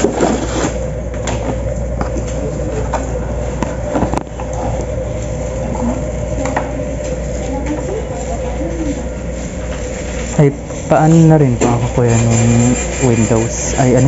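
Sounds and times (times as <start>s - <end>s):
shop interior hum: 0.0s - 14.0s.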